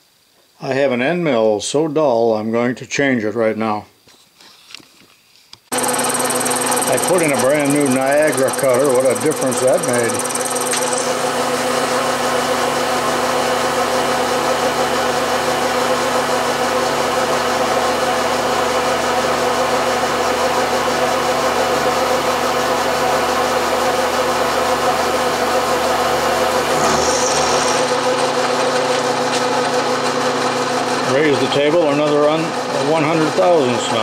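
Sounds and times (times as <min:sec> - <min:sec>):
end mill cutting steel: 0:05.7 - 0:34.0
milling machine spindle hum: 0:05.7 - 0:34.0.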